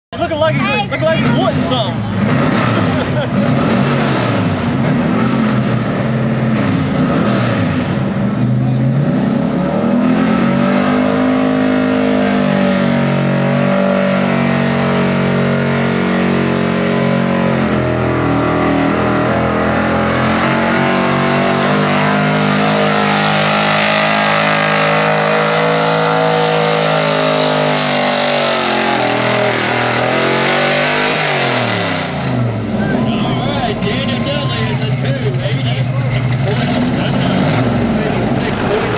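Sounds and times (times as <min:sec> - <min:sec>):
pickup truck engine at full throttle: 0:00.1 - 0:38.9.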